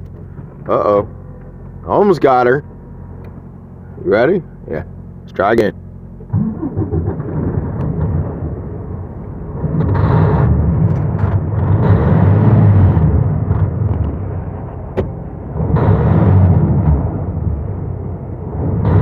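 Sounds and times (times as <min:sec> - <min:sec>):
diesel engine rumbling unevenly: 0:00.0 - 0:19.0.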